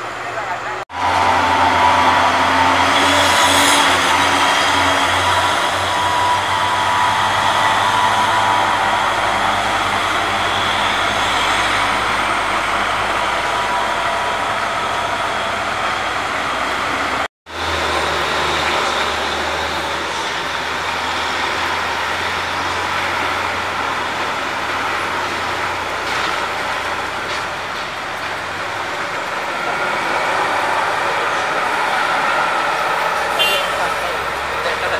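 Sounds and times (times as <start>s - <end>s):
truck engines humming: 0.0s - 34.9s.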